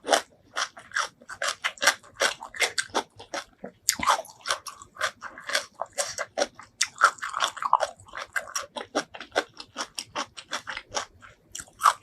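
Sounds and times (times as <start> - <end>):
person chewing seafood: 0.0 - 12.0.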